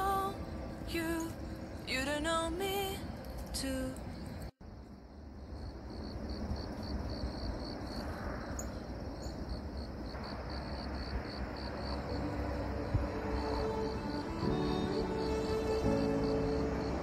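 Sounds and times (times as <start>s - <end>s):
steady background hiss: 0.0s - 17.0s
cricket chirping: 3.2s - 17.0s.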